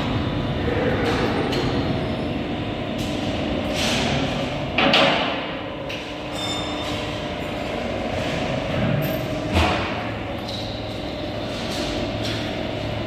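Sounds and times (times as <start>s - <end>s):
baler mechanical hum: 0.0s - 13.0s.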